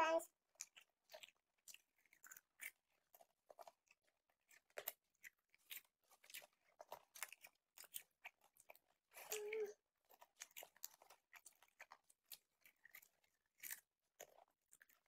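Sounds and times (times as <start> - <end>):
popcorn being chewed: 0.0 - 15.0.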